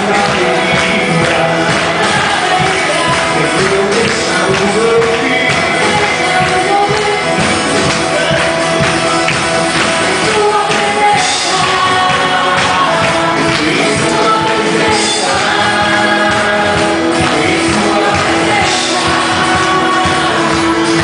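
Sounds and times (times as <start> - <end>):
band playing live: 0.0 - 21.0
drums steady beat: 0.0 - 21.0
voices singing: 0.0 - 21.0.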